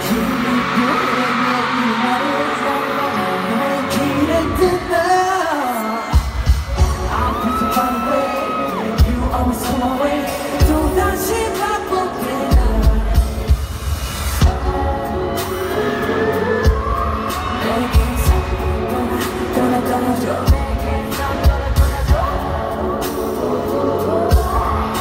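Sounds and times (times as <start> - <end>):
person singing: 0.0 - 13.7, 14.4 - 25.0
pop song over sound system: 0.0 - 25.0.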